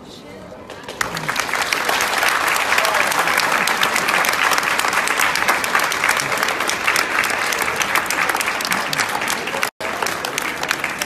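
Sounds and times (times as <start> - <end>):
crowd applauding: 0.7 - 11.0.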